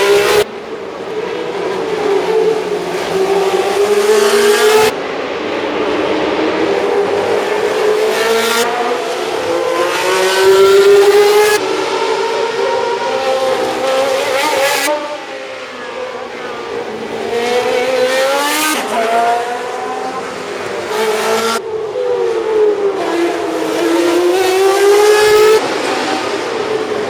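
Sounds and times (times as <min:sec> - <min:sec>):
racing car engines passing: 0:00.0 - 0:27.0.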